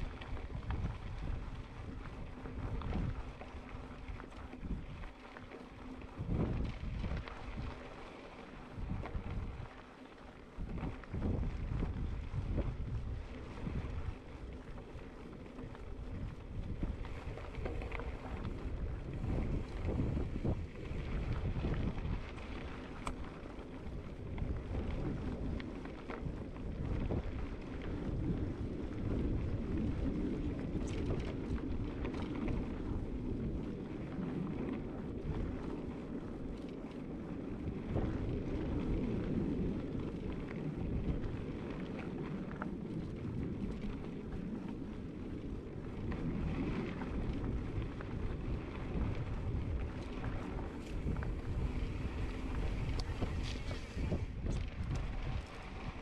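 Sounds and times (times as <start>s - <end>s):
bike clicks and rattles: 0.0s - 56.0s
wind buffeting microphone: 0.0s - 56.0s.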